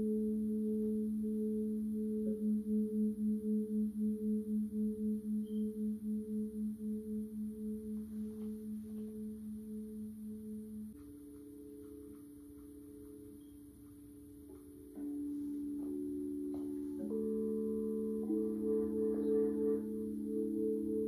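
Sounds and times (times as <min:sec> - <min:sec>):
pulsing low tone: 0:00.0 - 0:21.0.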